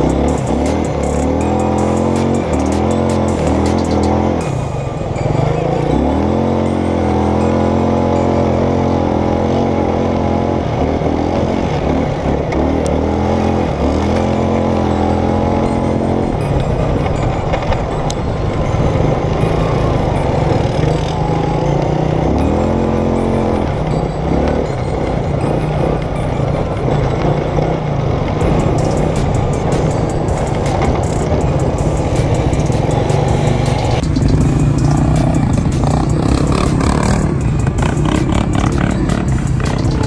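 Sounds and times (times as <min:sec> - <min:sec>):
atv engines revving: 0:00.0 - 0:40.0.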